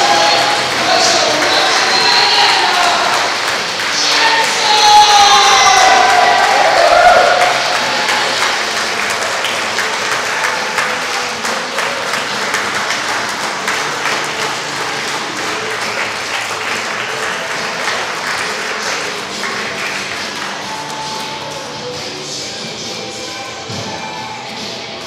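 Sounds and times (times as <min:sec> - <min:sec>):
audience applauding: 0:00.0 - 0:21.7.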